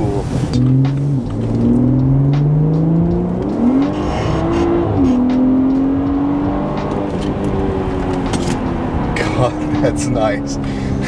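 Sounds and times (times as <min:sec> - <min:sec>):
car engine accelerating: 0:00.0 - 0:11.0
road noise: 0:00.0 - 0:11.0.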